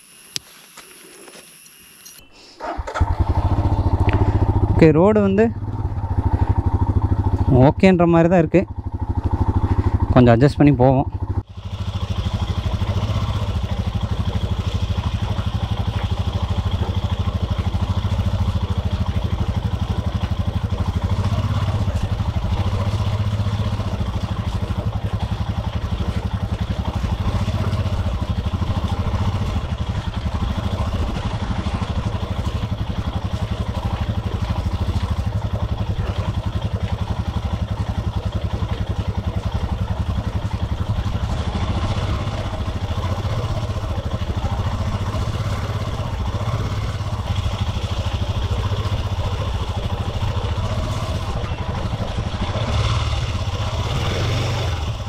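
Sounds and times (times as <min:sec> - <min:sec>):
motorcycle engine running: 0:02.6 - 0:55.0.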